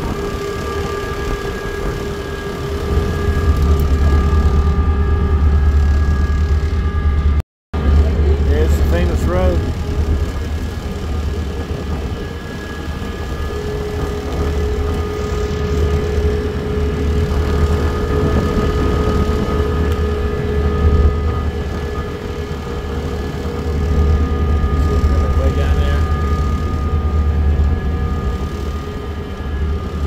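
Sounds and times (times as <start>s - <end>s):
drive whine: 0.0s - 30.0s
train low rumble: 0.0s - 30.0s.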